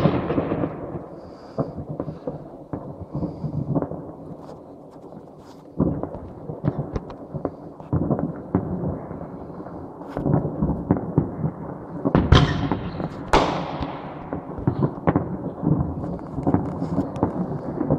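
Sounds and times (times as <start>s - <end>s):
loud firework bursts: 0.0s - 4.5s, 5.8s - 17.9s
fireworks banging: 0.0s - 17.9s.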